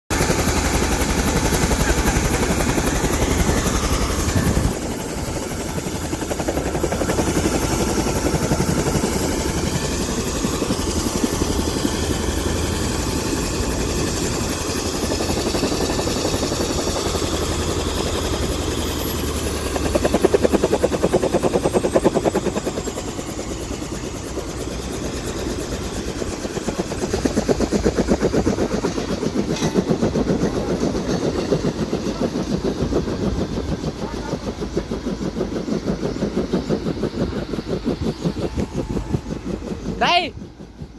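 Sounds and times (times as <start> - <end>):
helicopter engine and rotor beat: 0.1 - 40.9.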